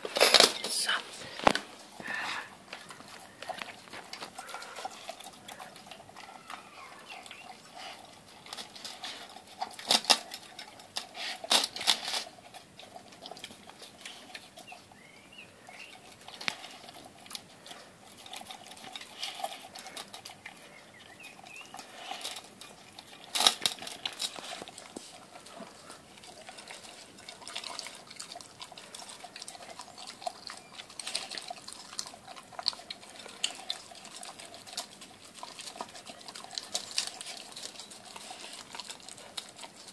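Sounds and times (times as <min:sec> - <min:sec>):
dog chewing and smacking: 0:00.0 - 0:39.9
teeth and tongue clicks: 0:01.4 - 0:39.9.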